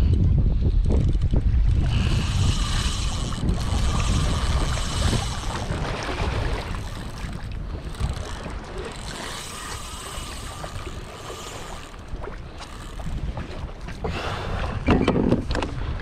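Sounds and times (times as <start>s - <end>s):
wind buffeting microphone: 0.0s - 16.0s
water washing against hull: 0.1s - 16.0s.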